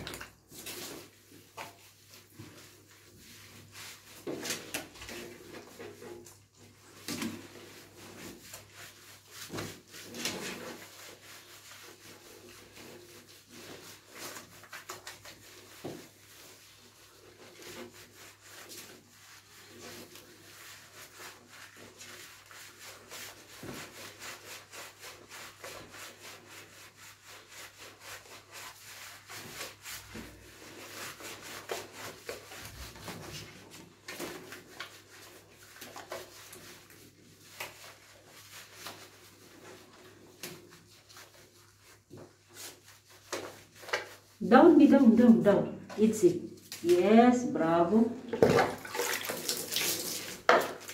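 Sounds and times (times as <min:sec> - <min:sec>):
wet rubbing of dog fur: 0:00.0 - 0:50.9.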